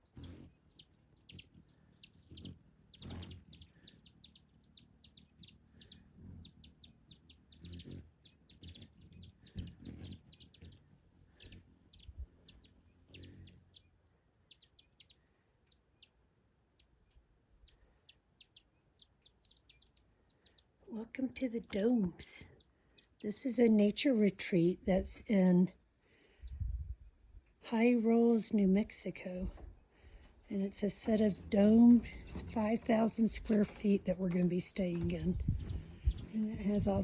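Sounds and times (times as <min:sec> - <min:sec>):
birds chirping: 0:00.0 - 0:25.5, 0:28.0 - 0:37.0.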